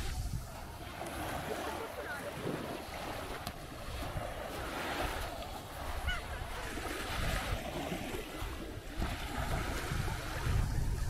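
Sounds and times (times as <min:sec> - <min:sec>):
sea waves washing onto beach: 0:00.0 - 0:11.0
wind buffeting microphone: 0:00.0 - 0:11.0.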